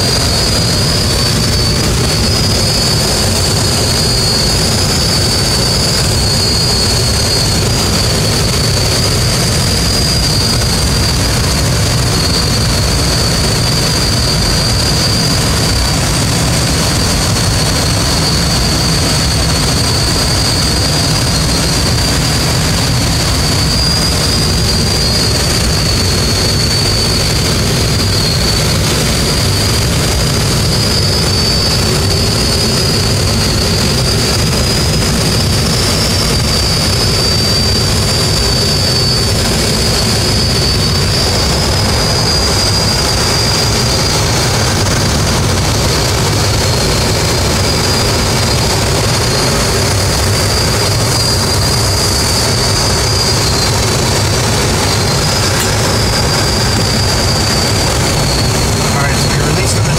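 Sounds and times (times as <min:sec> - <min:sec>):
air rushing past glider: 0:00.0 - 0:59.9
thin high whistle: 0:00.0 - 0:59.9.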